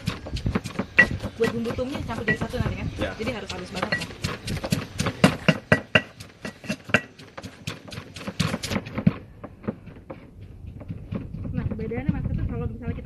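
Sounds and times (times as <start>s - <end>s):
stone pestle pounding in mortar: 0.0s - 13.0s.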